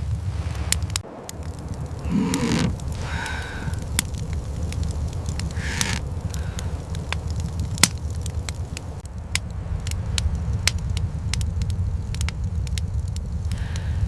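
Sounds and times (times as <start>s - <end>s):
low rumble: 0.0s - 14.0s
sharp crackles and pops: 0.0s - 14.0s.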